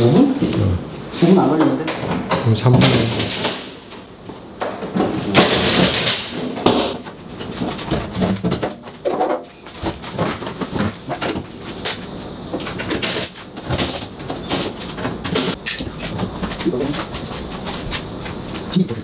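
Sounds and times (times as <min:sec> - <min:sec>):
clicks and knocks of panels: 0:01.5 - 0:18.8.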